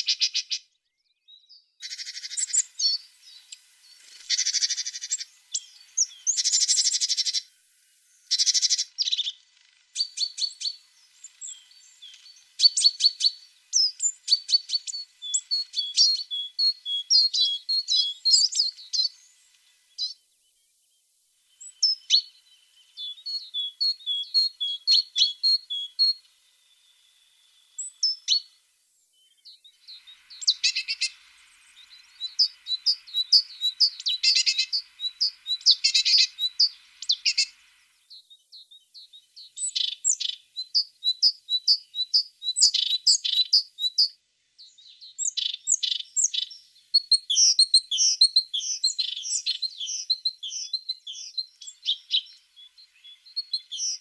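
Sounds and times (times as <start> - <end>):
bird trilling and chirping: 1.8 - 7.5, 8.3 - 19.3, 21.6 - 26.3, 29.4 - 44.1, 44.8 - 54.0.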